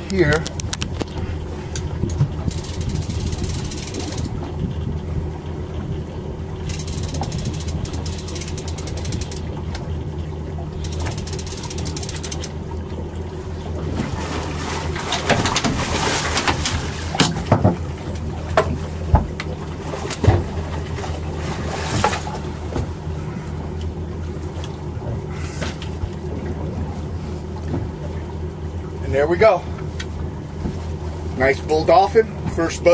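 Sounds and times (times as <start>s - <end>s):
boat engine idling: 0.0s - 32.9s.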